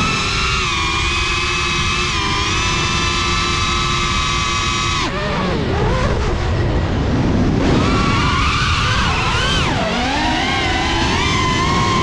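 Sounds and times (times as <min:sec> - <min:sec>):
drone motors whining: 0:00.0 - 0:12.0
wind rumble on microphone: 0:00.0 - 0:12.0.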